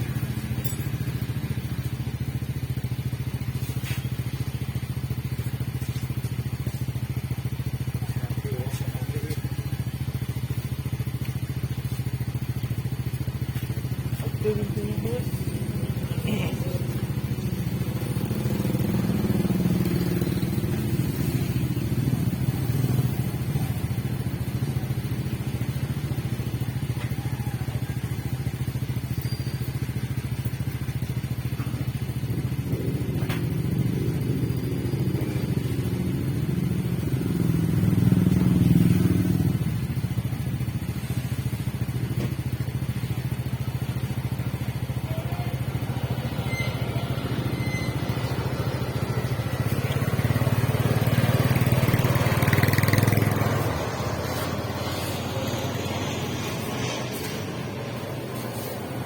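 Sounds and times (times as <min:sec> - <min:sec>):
small motorcycle engine running: 0:00.0 - 0:59.0.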